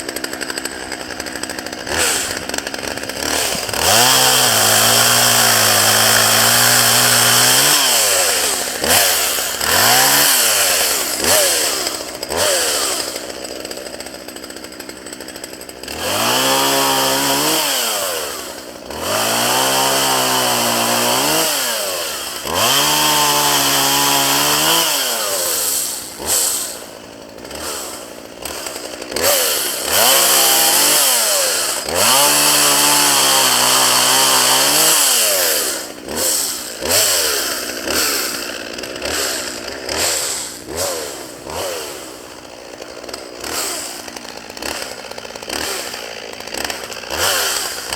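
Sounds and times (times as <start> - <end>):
chainsaw revving and idling: 0.0 - 47.9.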